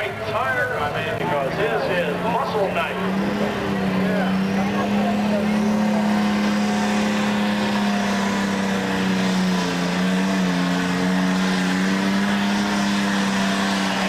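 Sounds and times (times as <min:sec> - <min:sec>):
tractor engine at full throttle: 0:00.0 - 0:14.0.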